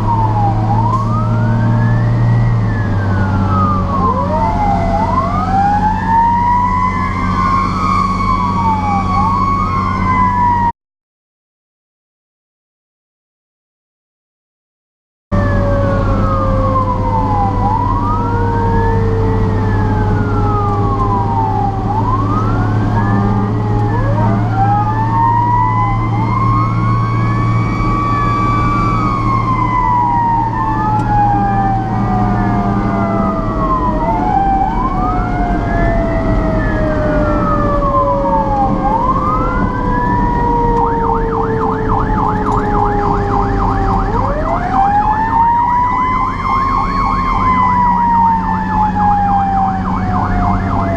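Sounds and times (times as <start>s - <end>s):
rapid warbling siren: 0.0s - 10.7s, 15.4s - 50.9s
siren falling in pitch: 0.0s - 10.7s, 15.4s - 50.9s
truck engine drone: 0.0s - 10.7s, 15.3s - 50.9s
wailing siren: 0.0s - 10.7s, 15.3s - 50.9s.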